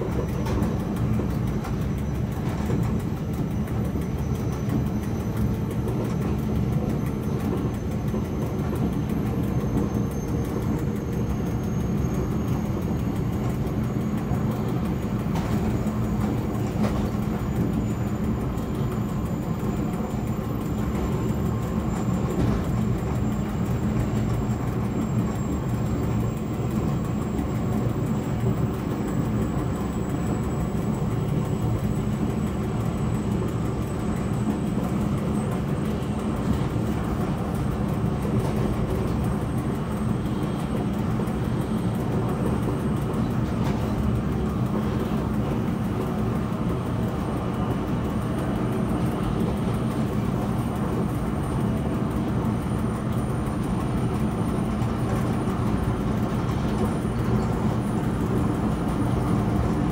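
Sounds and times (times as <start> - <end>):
locomotive wheels rumbling on rail: 0.0 - 59.9.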